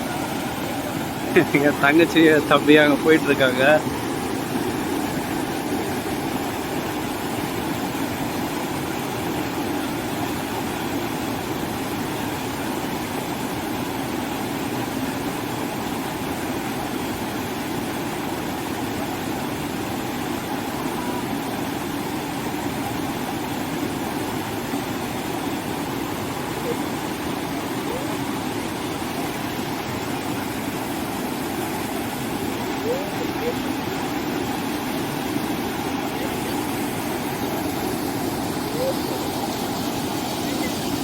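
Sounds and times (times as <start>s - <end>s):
water rushing over rocks: 0.0s - 41.0s.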